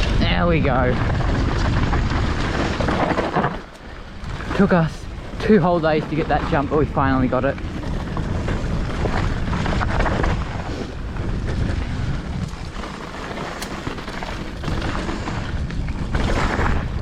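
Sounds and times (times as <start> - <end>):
bike tyres rolling on dirt: 0.0 - 17.0
wind on microphone: 0.0 - 17.0.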